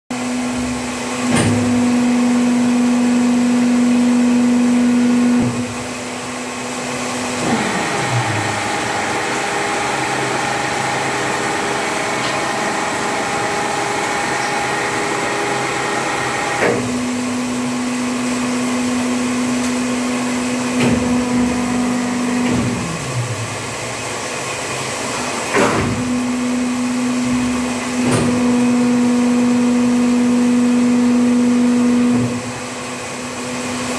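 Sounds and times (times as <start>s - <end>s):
hydraulic machine hum: 0.2s - 33.9s.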